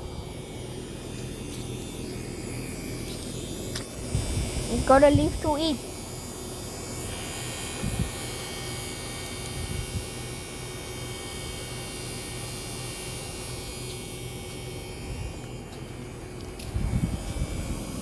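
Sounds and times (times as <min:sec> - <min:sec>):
washing machine motor humming: 0:00.0 - 0:18.0.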